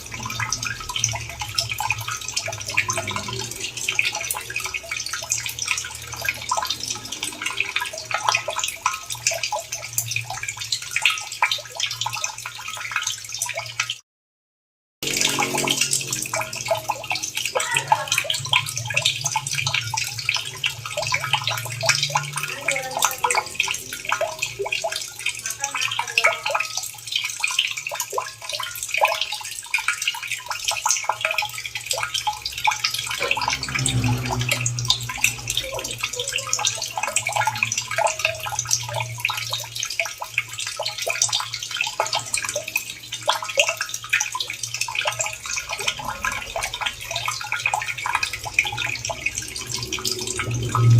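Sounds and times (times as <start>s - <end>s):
water drips and plops: 0.0s - 14.0s, 15.0s - 50.9s
water running and splashing: 0.0s - 14.0s, 15.0s - 50.9s.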